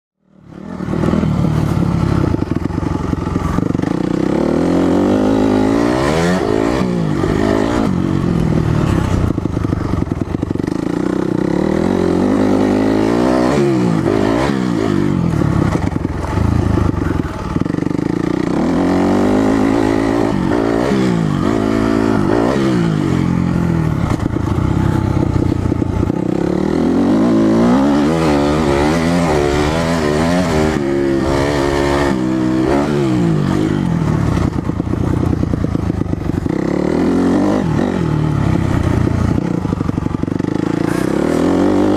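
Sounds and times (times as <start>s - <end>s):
motorcycle engine revving: 0.2s - 41.9s.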